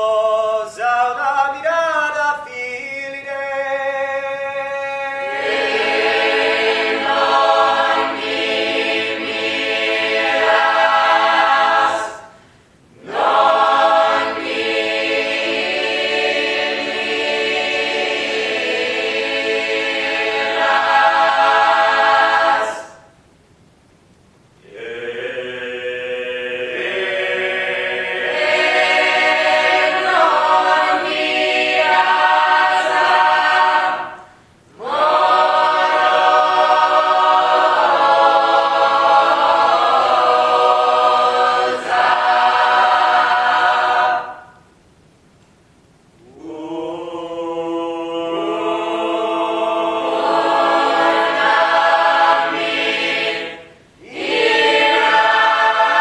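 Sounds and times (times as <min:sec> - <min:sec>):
mixed choir singing in harmony: 0:00.0 - 0:01.2, 0:03.1 - 0:12.4, 0:13.0 - 0:23.2, 0:24.6 - 0:44.7, 0:46.2 - 0:56.0.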